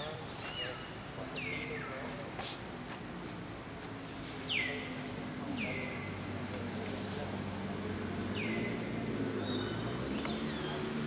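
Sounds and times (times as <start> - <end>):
bird calling: 0.0 - 11.0
low outdoor ambient hum: 0.0 - 11.0.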